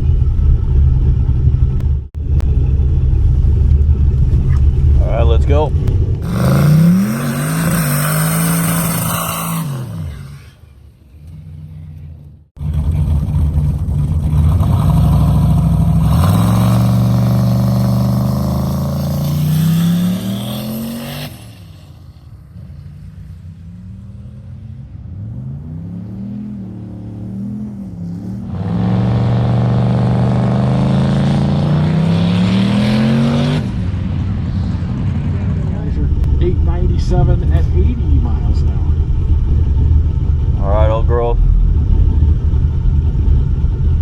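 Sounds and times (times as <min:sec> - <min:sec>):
drag car engine accelerating: 0:00.0 - 0:44.0.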